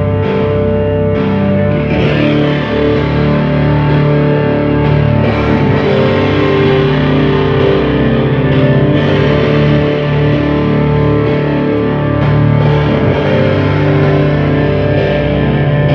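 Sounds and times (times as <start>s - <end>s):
distorted electric guitar: 0.0s - 15.9s
sustained drone notes: 0.0s - 15.9s.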